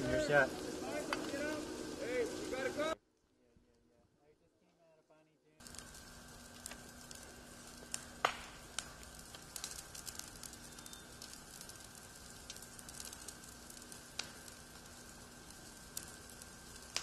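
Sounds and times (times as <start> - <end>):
fire crackling and popping: 0.0 - 3.0, 5.6 - 17.0
fire hissing: 0.0 - 3.0, 5.6 - 17.0.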